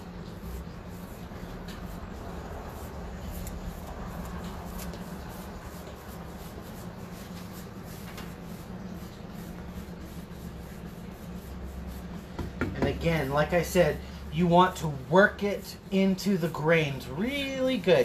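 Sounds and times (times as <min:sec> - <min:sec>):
paintbrush brushing on wood: 0:00.0 - 0:18.0
steady low hum: 0:00.0 - 0:18.0.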